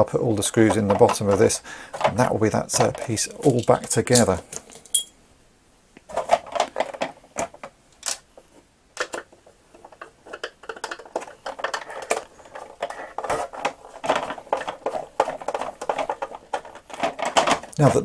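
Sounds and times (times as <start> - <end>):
plastic toy knocking and clattering: 0.4 - 4.3, 6.1 - 8.2, 9.0 - 18.0.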